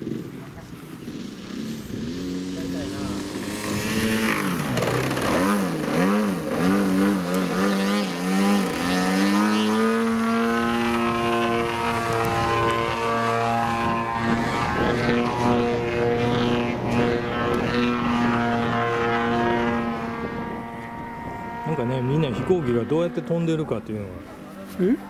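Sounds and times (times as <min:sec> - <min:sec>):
model airplane motor whining: 0:00.2 - 0:24.8.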